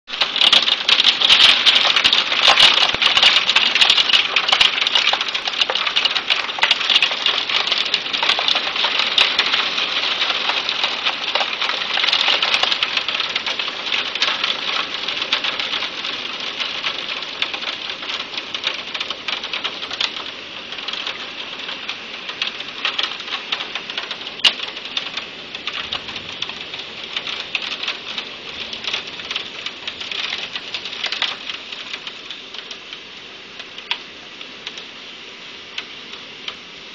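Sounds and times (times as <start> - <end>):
hailstones clattering: 0.1 - 33.0
heavy rain hissing: 0.1 - 36.9.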